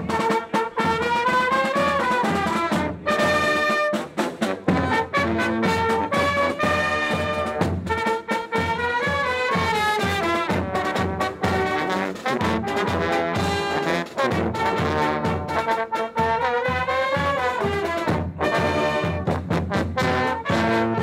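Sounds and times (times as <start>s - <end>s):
brass band playing: 0.0s - 21.0s
drum beats: 0.0s - 21.0s.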